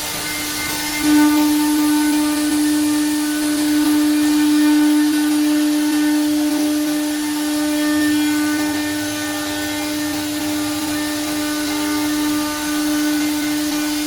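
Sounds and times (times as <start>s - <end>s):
spindle motor whine: 0.0s - 14.0s.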